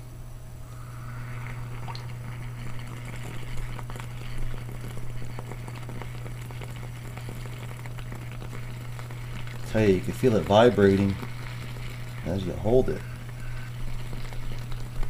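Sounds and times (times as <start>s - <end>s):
electrical hum: 0.0s - 15.0s
water crackling and sizzling: 0.5s - 15.0s.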